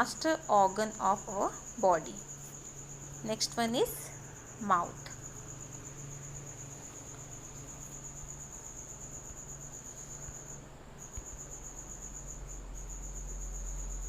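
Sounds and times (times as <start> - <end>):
cricket trilling: 0.0 - 14.0
low electrical hum: 0.0 - 14.0.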